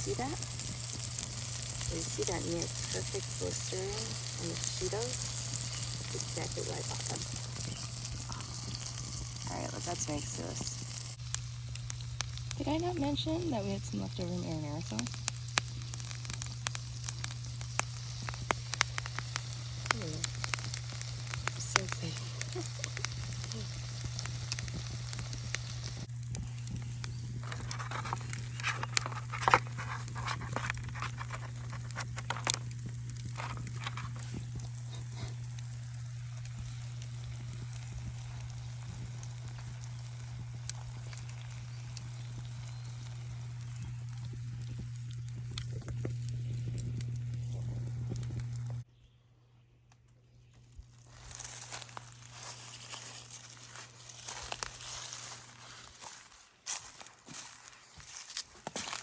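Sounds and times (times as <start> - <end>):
vegetables sizzling in a pan: 0.0 - 48.8, 50.9 - 59.0
fat popping and crackling: 0.0 - 48.9, 49.9 - 59.0.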